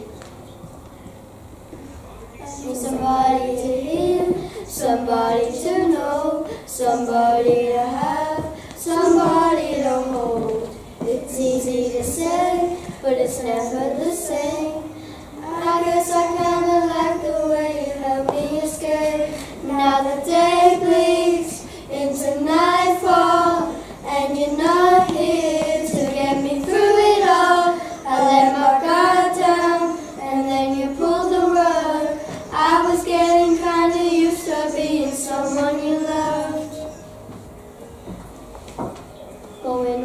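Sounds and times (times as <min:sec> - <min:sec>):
children singing in unison: 0:02.4 - 0:37.1.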